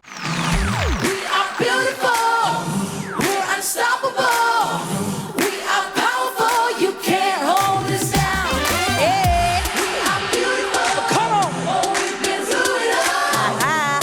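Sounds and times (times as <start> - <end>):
voices singing in harmony: 0.5 - 14.0.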